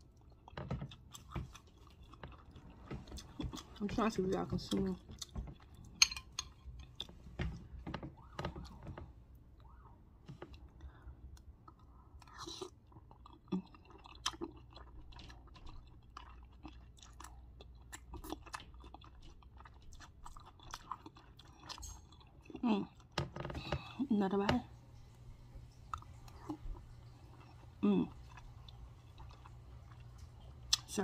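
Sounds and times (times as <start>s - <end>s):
person chewing food: 0.0s - 23.9s, 25.0s - 30.9s.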